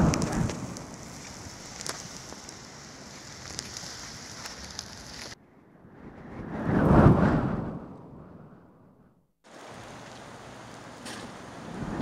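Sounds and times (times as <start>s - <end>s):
snowstorm wind and blowing snow: 0.0s - 12.0s.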